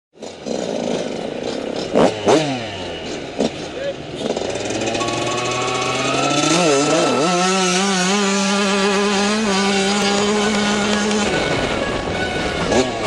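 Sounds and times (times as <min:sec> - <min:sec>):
dirt bike engine revving: 0:00.2 - 0:13.0.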